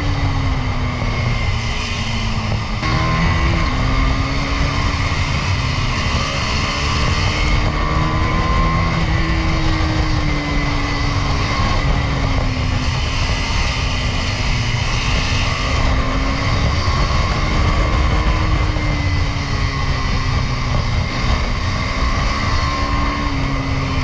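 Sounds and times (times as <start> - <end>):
motorcycle engine cruising: 0.0 - 24.0
wind rushing on microphone: 0.0 - 24.0.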